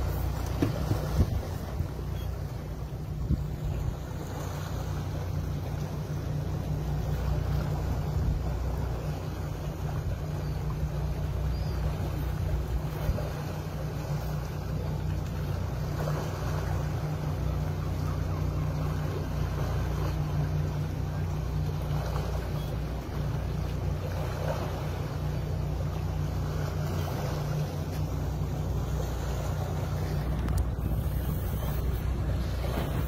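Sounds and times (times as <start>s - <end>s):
outboard engines humming: 0.0s - 33.0s
water noise: 0.0s - 33.0s.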